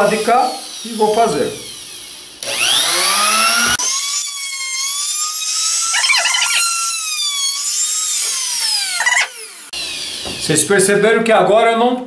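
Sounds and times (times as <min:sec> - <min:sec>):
router motor whining: 0:00.0 - 0:10.6.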